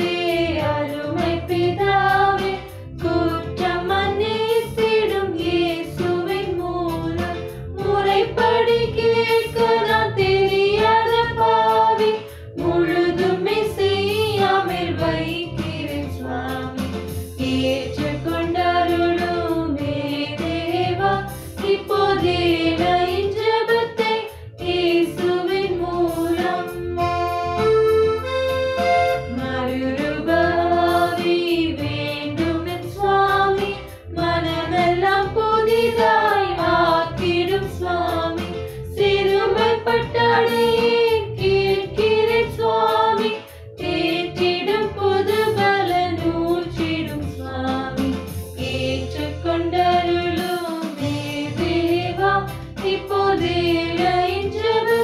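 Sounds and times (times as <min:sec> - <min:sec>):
instrumental accompaniment: 0:00.0 - 0:55.0
voices singing a hymn: 0:00.0 - 0:55.0.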